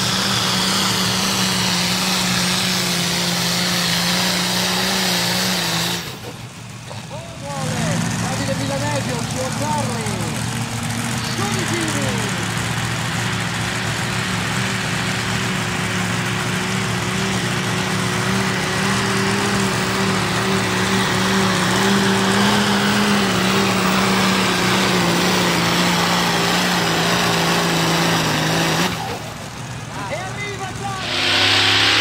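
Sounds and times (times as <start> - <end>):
tractor diesel engine under full load: 0.0 - 32.0.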